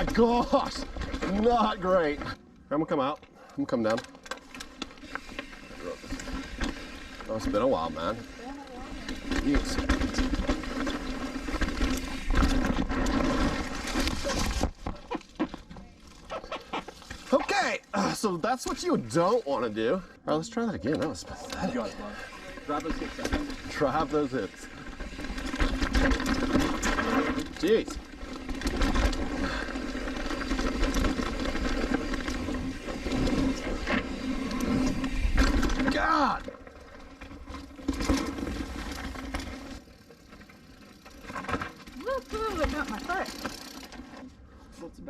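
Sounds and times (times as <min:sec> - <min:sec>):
bike tyres rumbling over dirt: 0:00.0 - 0:02.4, 0:04.6 - 0:19.7, 0:21.1 - 0:44.3.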